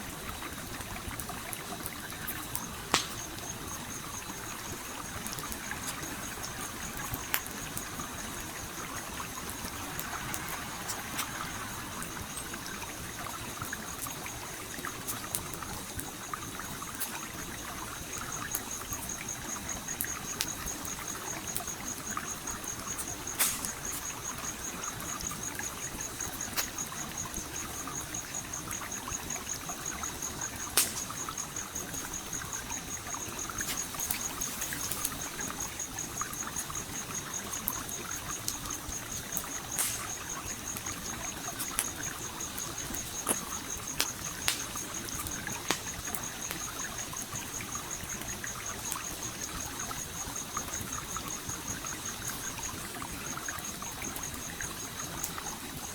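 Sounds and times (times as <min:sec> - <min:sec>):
campfire crackling: 0:00.0 - 0:55.9
stream water trickling: 0:00.0 - 0:55.9.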